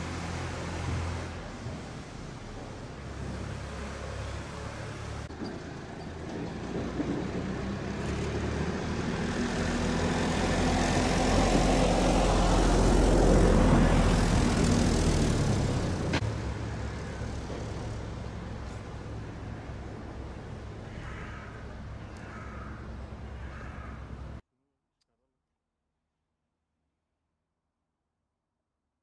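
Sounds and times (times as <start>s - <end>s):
engine drone passing by: 0.0s - 24.4s.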